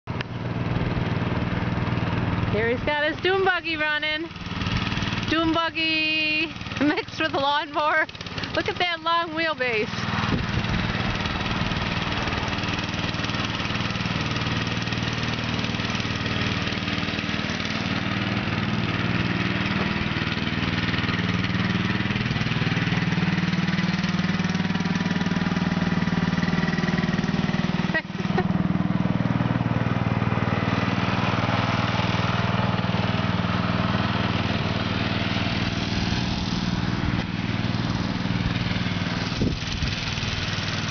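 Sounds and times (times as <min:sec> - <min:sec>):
small engine running: 0:00.1 - 0:40.9.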